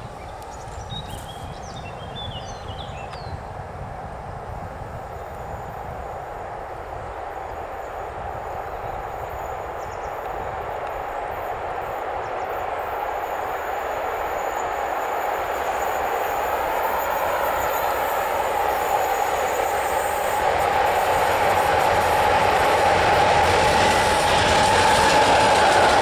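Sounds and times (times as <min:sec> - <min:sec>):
locomotive running noise: 0:00.0 - 0:26.0
train wheels on rails: 0:00.0 - 0:26.0.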